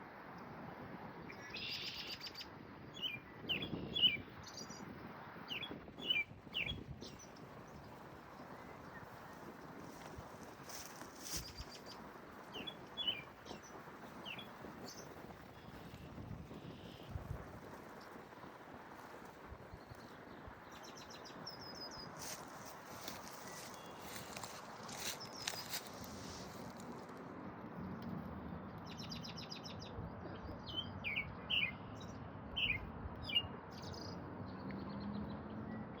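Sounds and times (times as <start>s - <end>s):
birds chirping: 1.3s - 26.8s, 28.8s - 35.8s.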